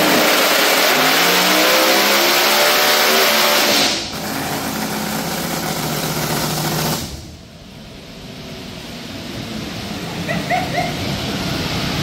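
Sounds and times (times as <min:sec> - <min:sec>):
drag car engine at full throttle: 0:00.0 - 0:12.0.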